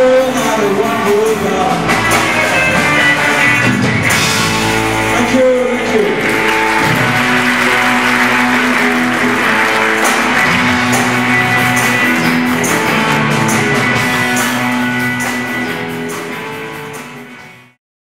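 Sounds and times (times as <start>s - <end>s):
live rock band playing: 0.0s - 17.8s.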